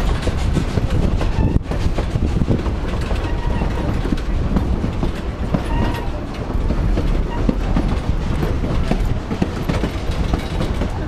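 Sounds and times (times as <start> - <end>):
train rumbling along track: 0.0 - 11.0
wheels clanking over rail joints: 0.0 - 11.0.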